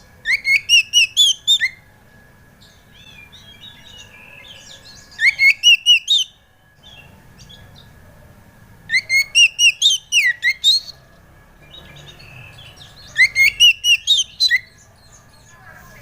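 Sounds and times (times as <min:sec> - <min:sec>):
bird singing whistled notes: 0:00.1 - 0:01.9, 0:02.6 - 0:07.9, 0:08.8 - 0:16.0.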